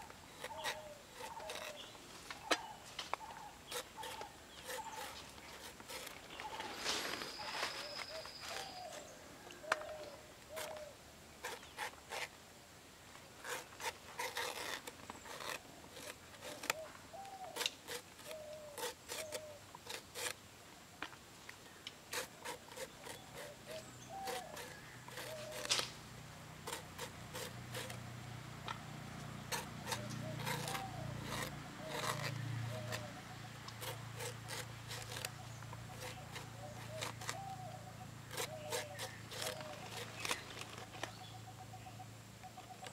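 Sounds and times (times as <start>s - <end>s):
knife slicing and scraping: 0.0s - 12.3s, 13.4s - 20.4s, 22.0s - 26.0s, 26.6s - 28.1s, 28.7s - 41.1s.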